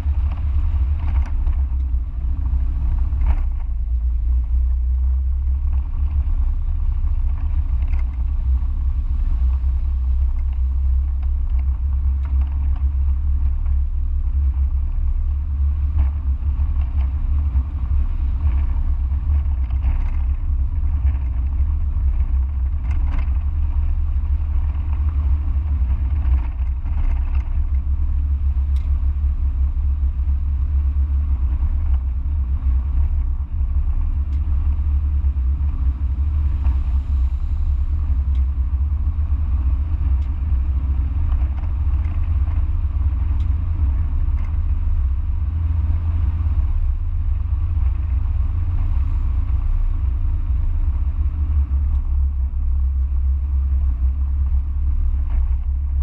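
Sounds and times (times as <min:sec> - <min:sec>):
car engine tyres and wind rumble: 0:00.0 - 0:56.0.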